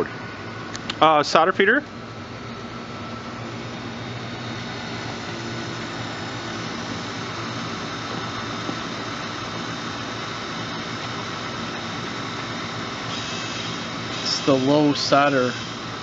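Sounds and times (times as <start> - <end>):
machine hum and hiss: 0.0 - 16.0.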